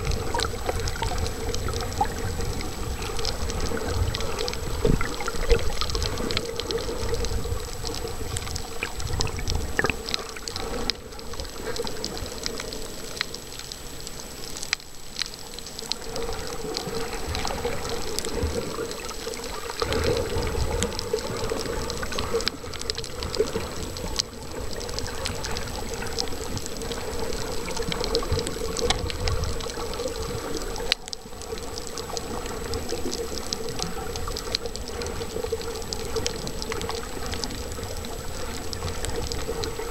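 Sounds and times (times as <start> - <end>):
sharp clicks and crackles: 0.0 - 39.9
underwater water rushing: 0.0 - 39.9.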